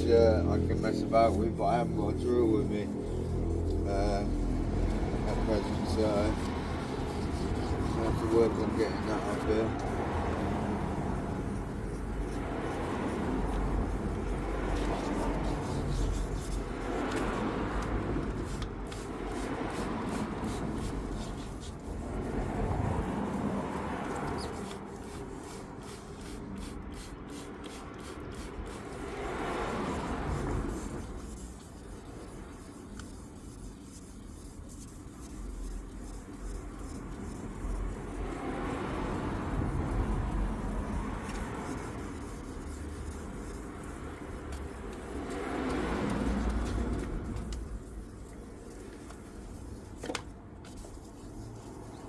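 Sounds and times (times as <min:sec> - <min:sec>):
sandpaper rubbing strokes: 0:00.0 - 0:52.0.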